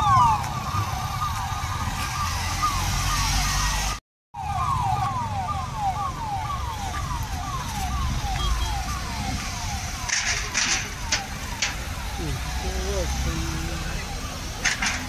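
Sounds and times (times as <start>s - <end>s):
vans driving past: 0.0s - 15.0s
vehicle siren wailing: 0.0s - 15.0s.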